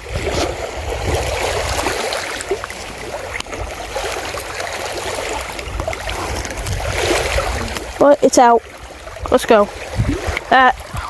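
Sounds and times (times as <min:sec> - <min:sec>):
water lapping against rocks: 0:00.0 - 0:11.0.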